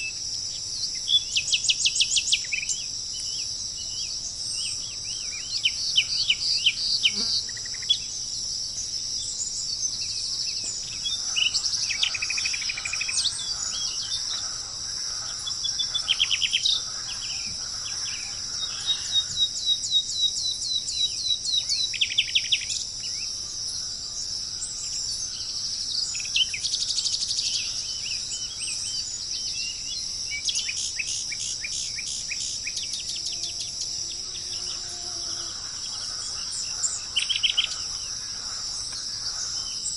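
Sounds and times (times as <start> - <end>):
birds chirping and trilling: 0.0 - 39.9
high-pitched insect drone: 0.0 - 39.9.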